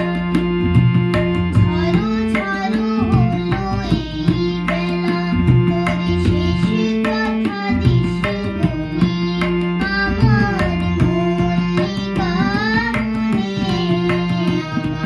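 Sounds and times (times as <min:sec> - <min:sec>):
girl singing: 0:00.0 - 0:00.7, 0:01.5 - 0:15.0
harmonium: 0:00.0 - 0:15.0
tabla: 0:00.0 - 0:15.0.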